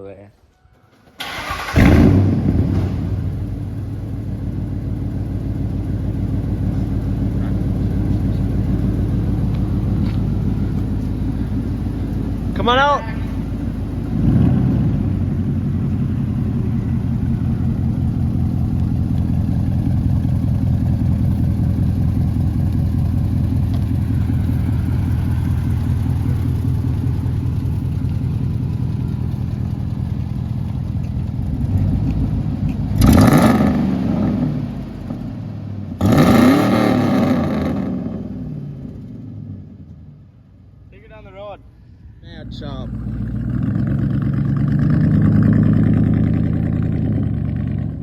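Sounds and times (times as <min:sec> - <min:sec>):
truck engine idling and revving: 0:00.9 - 0:48.0.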